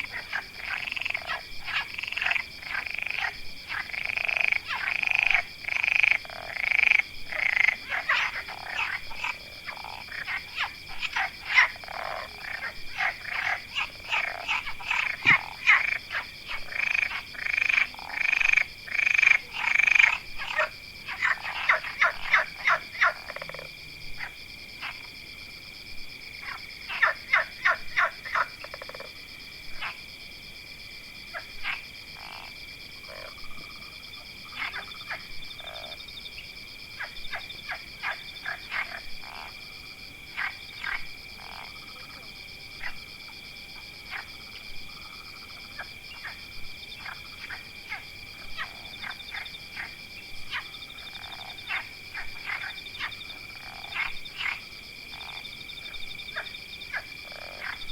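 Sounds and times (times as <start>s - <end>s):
frogs croaking: 0.0s - 57.9s.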